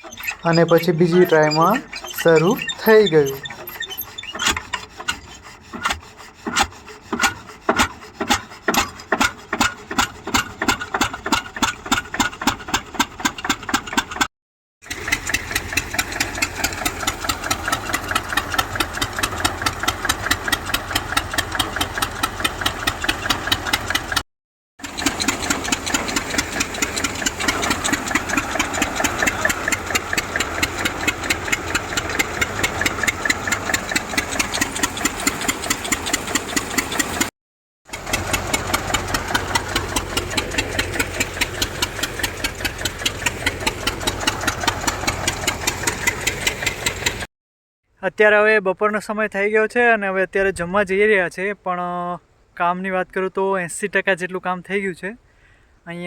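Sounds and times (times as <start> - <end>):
threshing machine engine chugging: 0.0 - 24.2, 24.8 - 37.3, 37.9 - 47.3.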